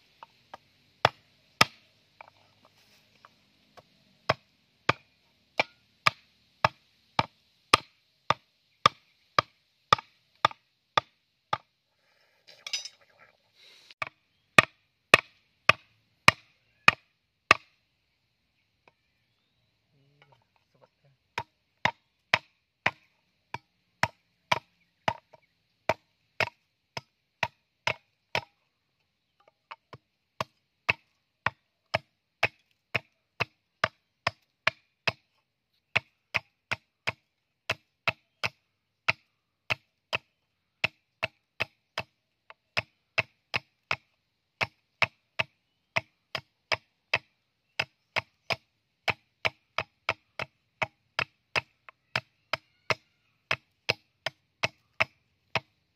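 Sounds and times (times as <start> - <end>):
machete chopping bamboo: 0.5 - 2.3, 3.8 - 11.7, 14.0 - 17.8, 21.4 - 28.6, 29.7 - 35.3, 35.9 - 55.8.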